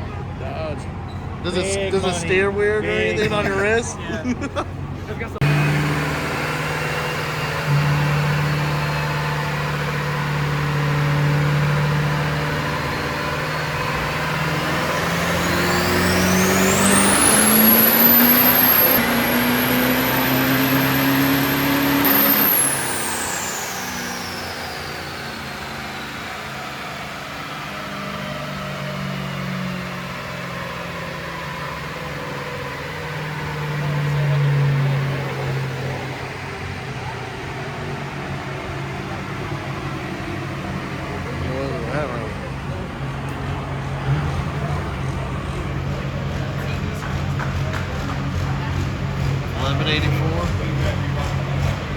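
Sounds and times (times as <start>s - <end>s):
diesel truck engine: 0.0s - 51.9s
turbocharger whine: 0.0s - 51.9s.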